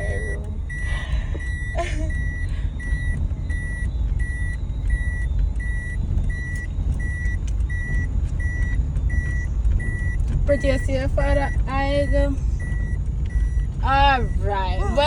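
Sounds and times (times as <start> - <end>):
engine and road rumble: 0.0 - 15.0
vehicle warning beeper: 0.0 - 15.0.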